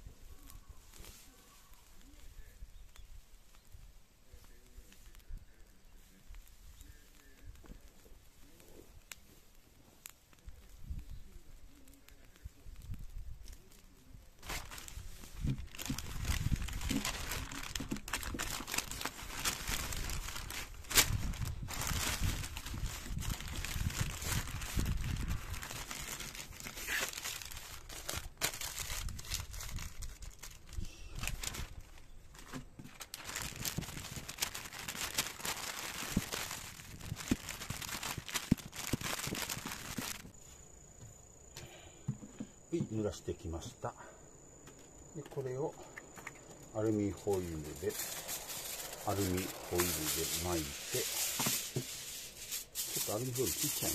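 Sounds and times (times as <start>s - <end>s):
newspaper rustling and crackling: 4.3s - 40.4s, 45.4s - 53.9s.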